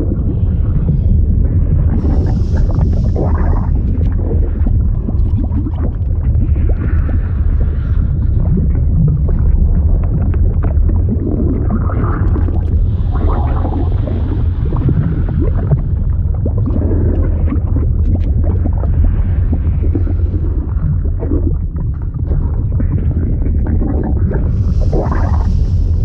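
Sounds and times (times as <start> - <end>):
deep rumble: 0.0 - 26.0.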